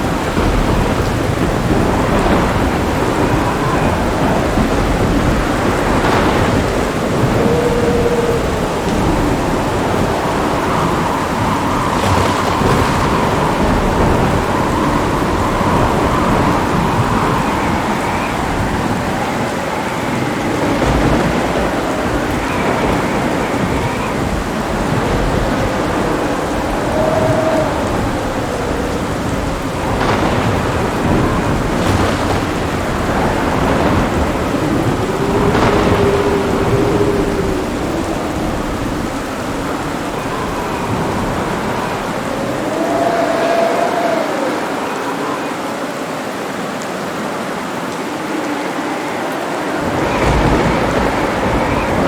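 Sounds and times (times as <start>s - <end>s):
low rumbling thunder: 0.0s - 45.7s, 49.6s - 52.0s
heavy rain: 0.0s - 52.0s.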